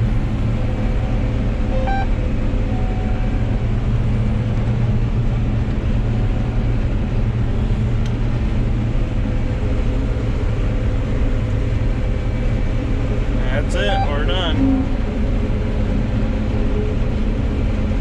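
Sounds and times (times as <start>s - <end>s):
combine harvester engine drone: 0.0s - 18.0s
faint constant whine: 0.0s - 18.0s.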